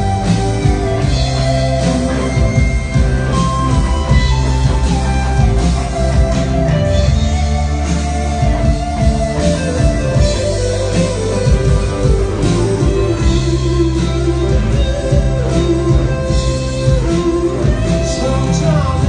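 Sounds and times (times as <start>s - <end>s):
bass: 0.0s - 19.0s
drums: 0.0s - 19.0s
electric guitar: 0.0s - 19.0s.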